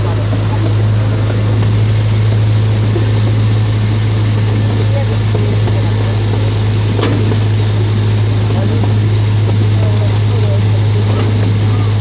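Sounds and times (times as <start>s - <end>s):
small locomotive engine drone: 0.0s - 12.0s
train running rumble: 0.0s - 12.0s.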